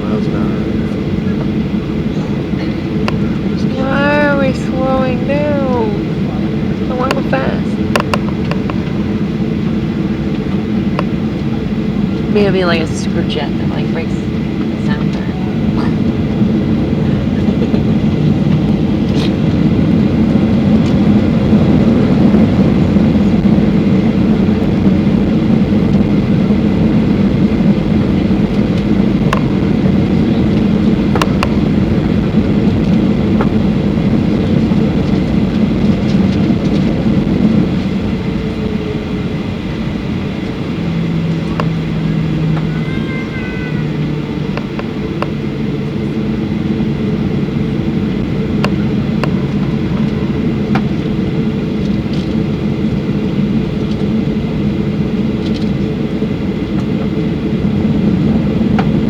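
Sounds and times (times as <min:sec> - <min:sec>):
jet engines rumbling: 0:00.0 - 0:59.0
low steady hum: 0:00.0 - 0:59.0.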